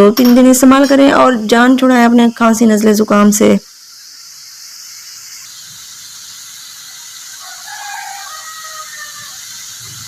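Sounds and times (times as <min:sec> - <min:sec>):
water boiling in a pan: 0:00.6 - 0:10.0.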